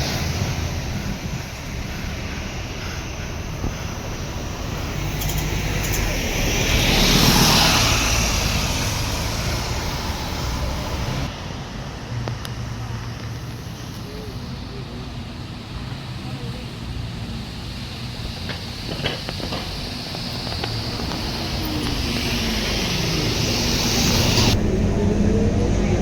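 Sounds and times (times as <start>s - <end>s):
bus diesel engine running: 0.0s - 26.0s
rush of noise: 0.0s - 26.0s.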